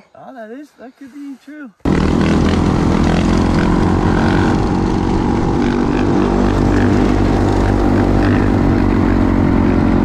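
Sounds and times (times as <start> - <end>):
dirt bike engine running: 1.9 - 10.0.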